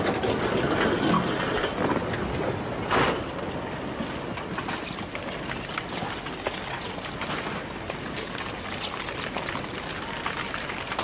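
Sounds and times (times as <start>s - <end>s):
landslide rushing and crackling: 0.0s - 11.0s.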